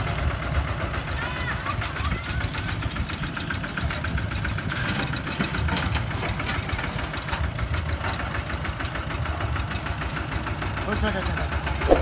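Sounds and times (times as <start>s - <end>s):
diesel tractor engine knocking: 0.0s - 11.9s.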